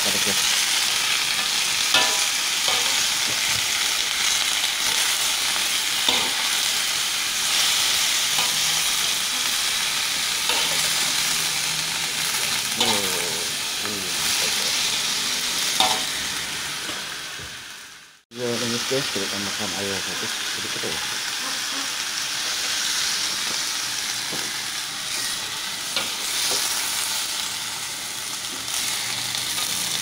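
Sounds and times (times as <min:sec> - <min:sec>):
cabbage sizzling in oil: 0:00.0 - 0:30.0.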